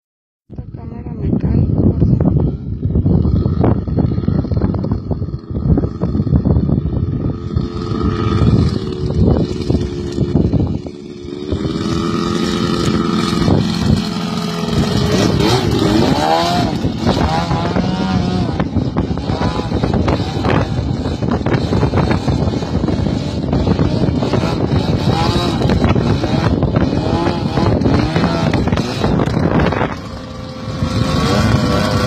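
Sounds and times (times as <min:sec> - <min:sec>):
wind buffeting microphone: 0:00.5 - 0:32.0
aircraft engine running: 0:00.6 - 0:32.0.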